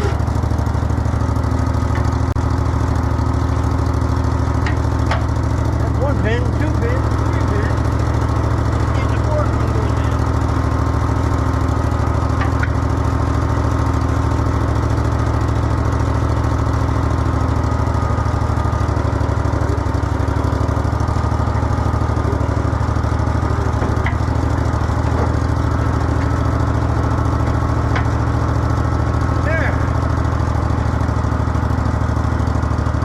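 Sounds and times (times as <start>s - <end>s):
skid steer engine idling: 0.0s - 33.0s.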